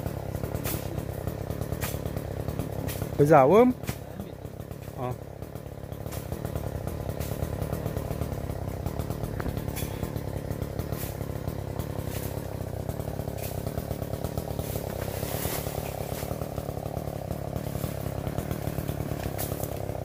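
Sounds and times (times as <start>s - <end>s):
small petrol engine running: 0.0s - 20.0s.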